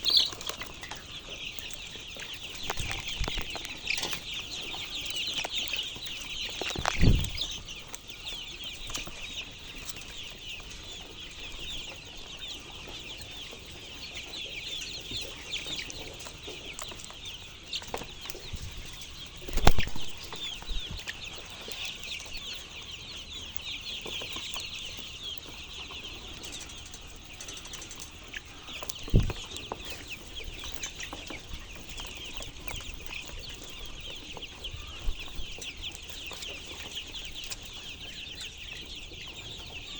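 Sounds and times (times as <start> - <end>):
chickens chirping: 0.0 - 39.9.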